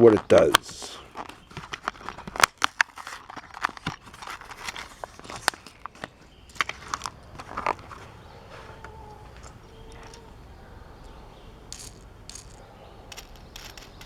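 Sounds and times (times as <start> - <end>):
plastic packaging crackling: 0.0 - 14.0.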